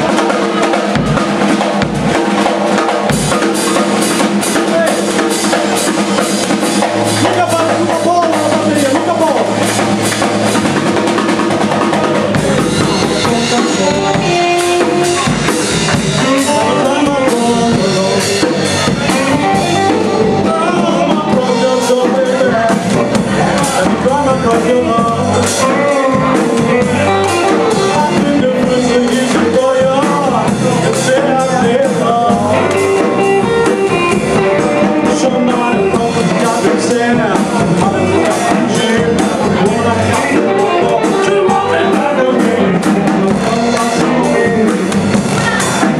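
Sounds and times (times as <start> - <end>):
bass guitar: 0.0 - 45.9
drum kit: 0.0 - 45.9
electric guitar: 0.0 - 45.9.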